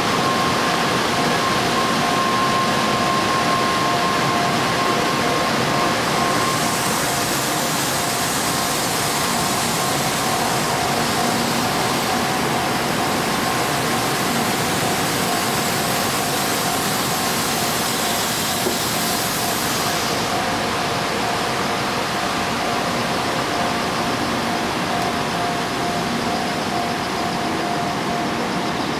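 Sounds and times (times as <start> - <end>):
faint steady tones: 0.0 - 28.9
train running noise: 0.0 - 28.9.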